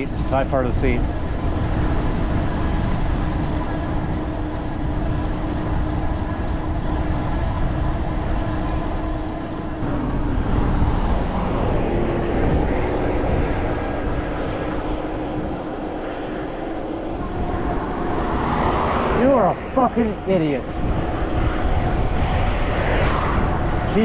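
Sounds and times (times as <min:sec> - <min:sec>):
motorcycle engine hum: 0:00.0 - 0:24.0
road rumble: 0:00.0 - 0:24.0
wind noise: 0:00.0 - 0:24.0.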